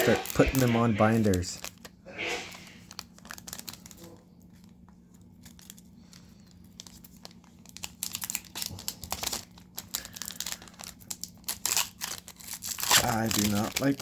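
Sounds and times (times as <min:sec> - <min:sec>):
foil wrapper crinkling and tearing: 0:00.0 - 0:14.0.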